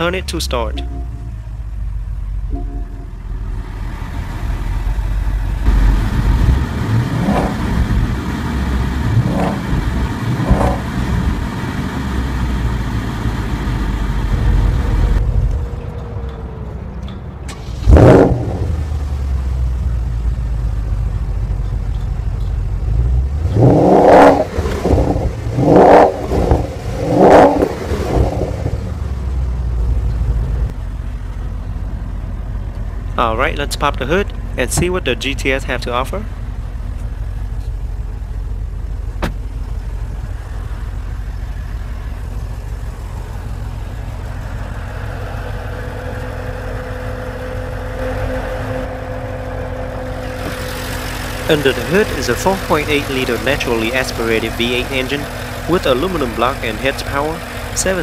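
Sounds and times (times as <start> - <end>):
car engine idling: 0.0 - 58.0
engine throttle blips: 0.0 - 58.0.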